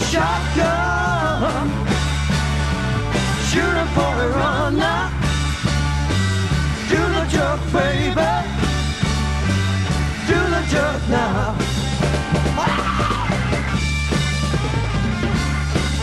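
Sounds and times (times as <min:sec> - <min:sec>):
psychedelic rock song from vinyl: 0:00.0 - 0:16.0.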